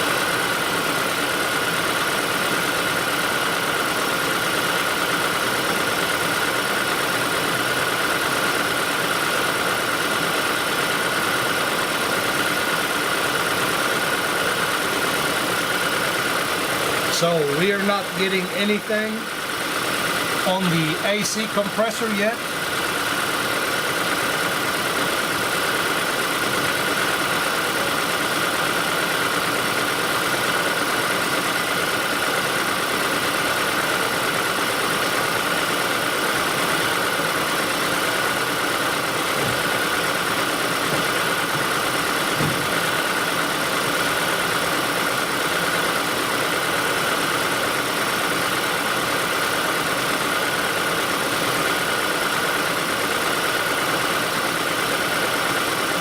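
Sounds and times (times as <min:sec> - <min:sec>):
car engine idling with high hum: 0:00.0 - 0:56.0.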